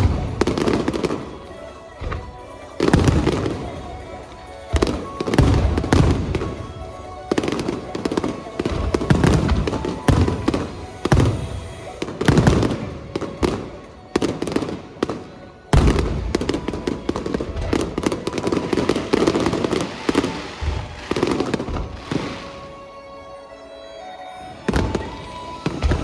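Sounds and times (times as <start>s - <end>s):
fireworks booming: 0.0s - 22.8s, 24.7s - 26.0s
fireworks crackling: 0.0s - 23.6s, 24.4s - 26.0s.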